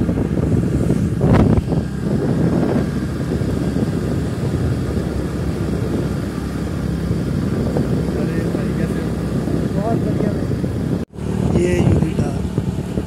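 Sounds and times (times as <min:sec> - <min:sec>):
wind and road rush: 0:00.0 - 0:13.0.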